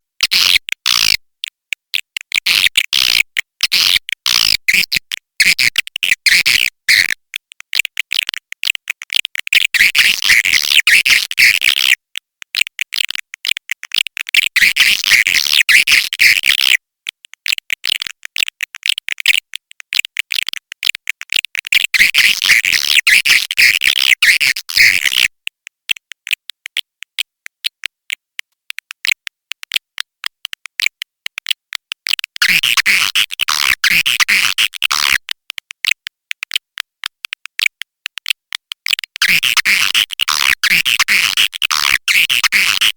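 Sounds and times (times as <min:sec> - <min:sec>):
rapid dry clicking: 0:01.7 - 0:42.9.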